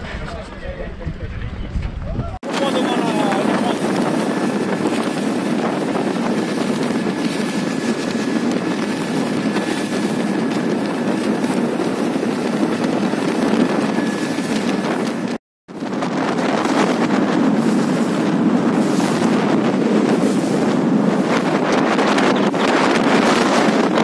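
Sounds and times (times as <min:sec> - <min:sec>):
wind noise on microphone: 0:00.0 - 0:24.0
motorboat engine running: 0:02.4 - 0:24.0.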